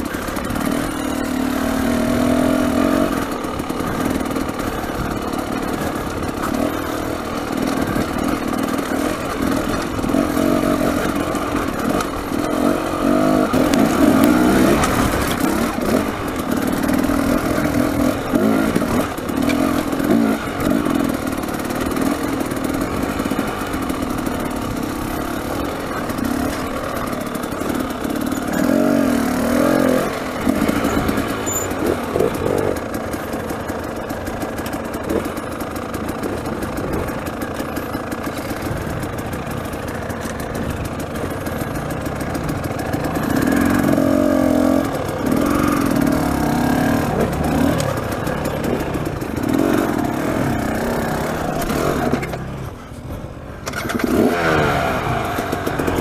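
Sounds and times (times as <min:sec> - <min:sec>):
clatter over rocks: 0:00.0 - 0:56.0
dirt bike engine revving: 0:00.0 - 0:56.0.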